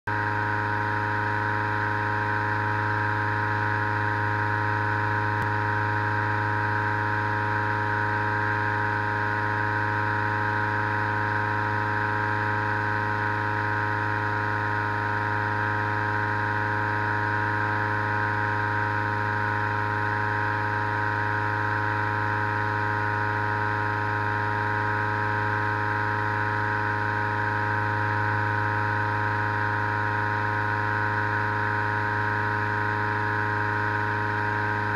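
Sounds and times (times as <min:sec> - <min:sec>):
inflator fan whirring drone: 0:00.1 - 0:34.9.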